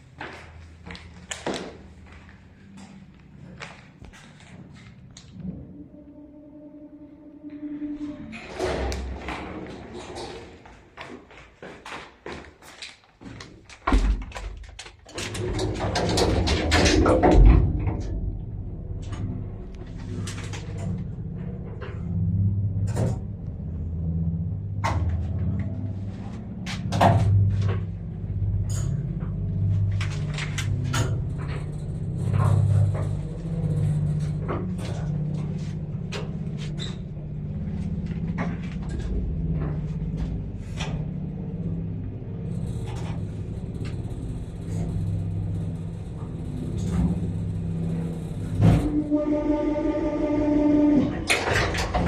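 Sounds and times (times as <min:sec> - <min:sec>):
lift hum and rumble: 0:00.0 - 0:11.3, 0:12.8 - 0:52.0.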